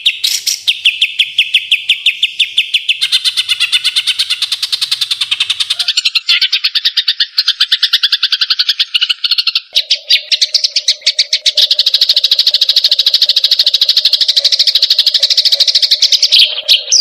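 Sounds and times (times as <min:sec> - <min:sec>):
bird singing fast trill: 0:00.0 - 0:17.0.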